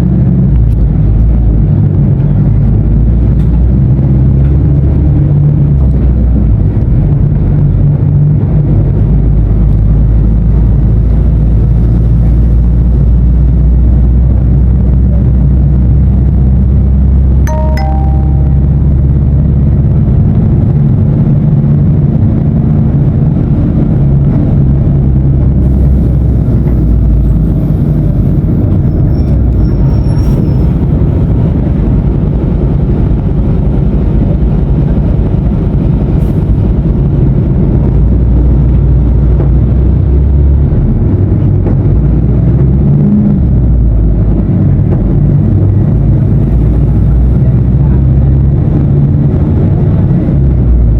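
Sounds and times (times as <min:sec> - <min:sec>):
diesel bus engine droning: 0:00.0 - 0:50.9.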